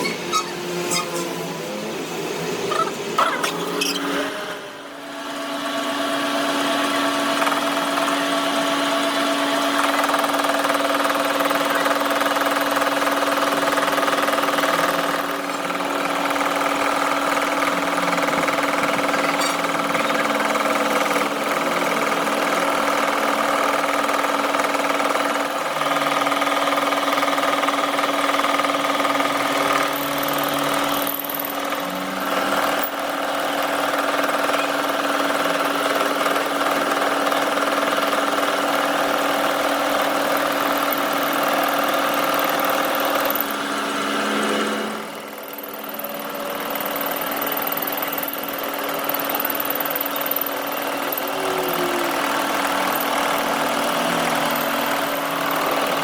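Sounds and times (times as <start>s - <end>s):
power tool motor humming: 0.0s - 56.0s.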